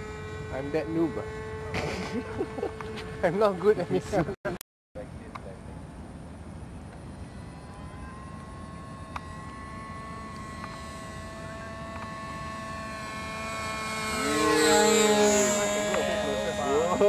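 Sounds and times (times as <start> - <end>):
model airplane engine droning: 0.0 - 17.0.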